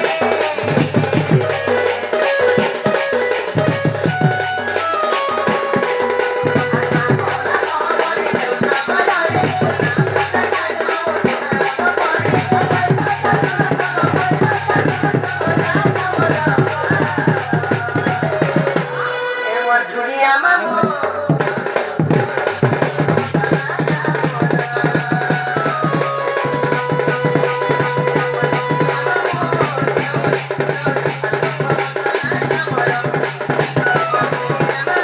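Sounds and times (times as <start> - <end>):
fast steady drumming: 0.0 - 19.1, 20.8 - 35.0.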